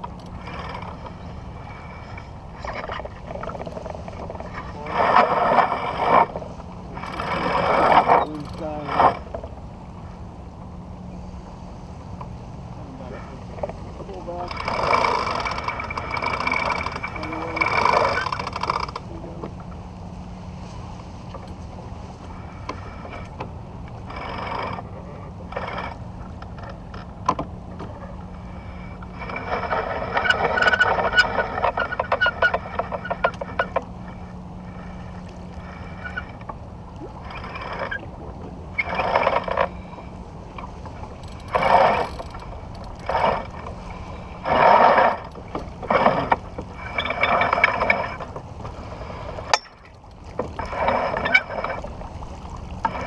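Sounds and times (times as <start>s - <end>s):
rapid clicking and rasping on deck: 0.0s - 9.5s, 13.1s - 19.7s, 22.4s - 53.0s
water: 0.0s - 53.0s
wind: 0.0s - 53.0s.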